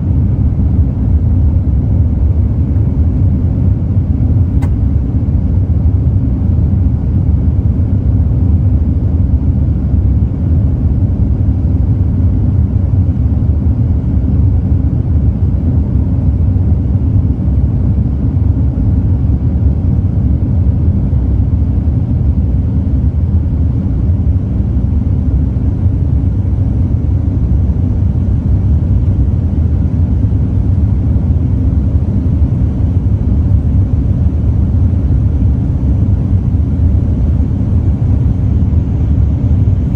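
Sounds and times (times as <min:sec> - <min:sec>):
airliner engine rumble in cabin: 0:00.0 - 0:39.9.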